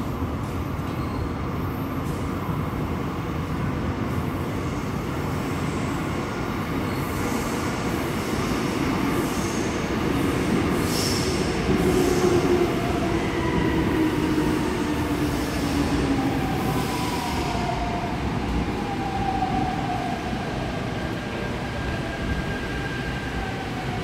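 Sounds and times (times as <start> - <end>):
train rumble in tunnel: 0.0 - 24.0.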